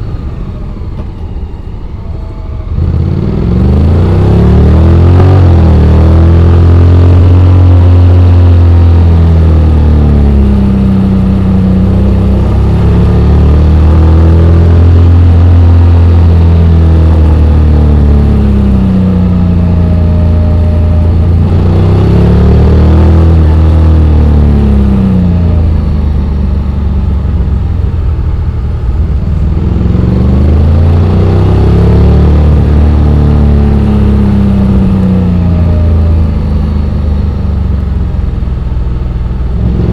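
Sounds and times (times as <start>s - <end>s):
motorcycle engine revving: 2.6s - 39.9s.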